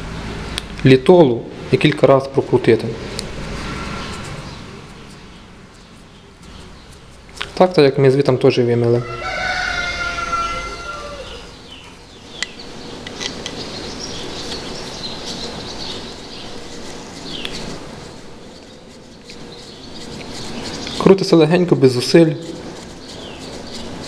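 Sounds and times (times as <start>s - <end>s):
birds chirping faintly: 3.4s - 24.0s.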